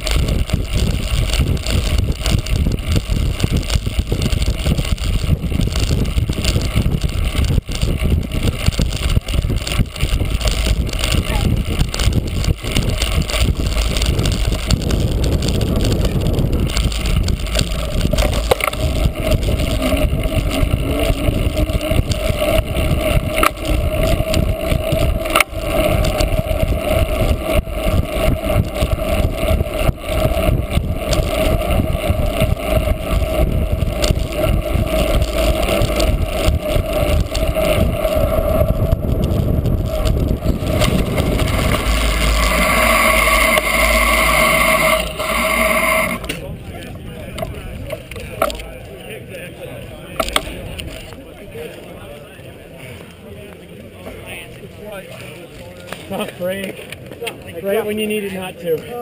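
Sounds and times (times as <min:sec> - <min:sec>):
bicycle rattling and knocking: 0:00.0 - 0:48.9
wind rumble on microphone: 0:00.0 - 0:59.0.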